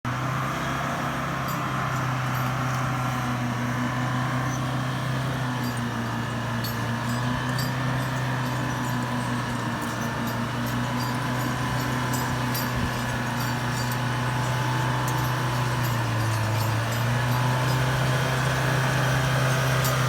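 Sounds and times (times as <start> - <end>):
heavy vehicle engine humming: 0.0 - 20.0.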